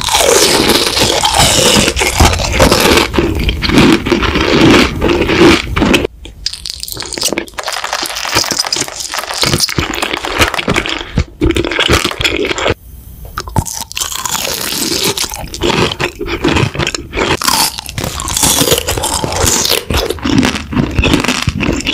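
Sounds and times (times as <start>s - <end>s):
mouth crunching and chewing: 0.0s - 21.9s.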